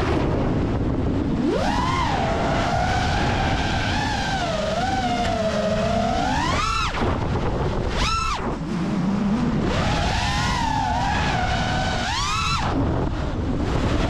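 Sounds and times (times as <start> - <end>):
drone motors whining: 0.0 - 14.0
low wind rumble: 0.0 - 14.0.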